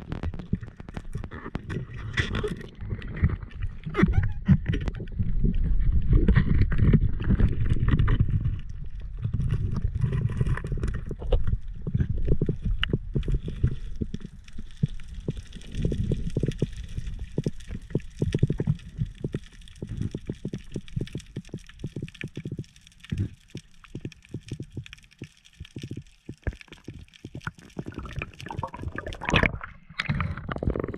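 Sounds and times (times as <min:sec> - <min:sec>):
underwater rumble of water: 0:00.0 - 0:30.9.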